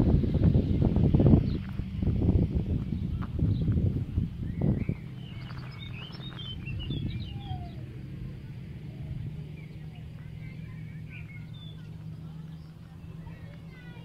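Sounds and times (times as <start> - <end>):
low steady rumble: 0.0 - 14.0
small birds chirping: 1.0 - 2.2, 2.8 - 14.0.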